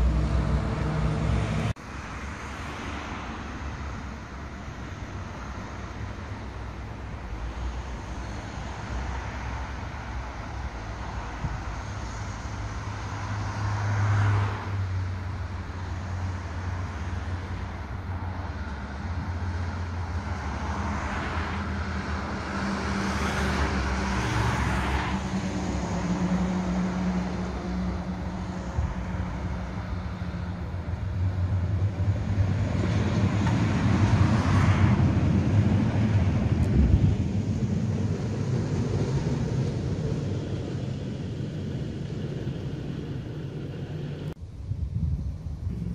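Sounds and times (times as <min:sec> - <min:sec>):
road traffic passing: 0:00.0 - 0:45.9
tram rumbling along rails: 0:00.0 - 0:45.9.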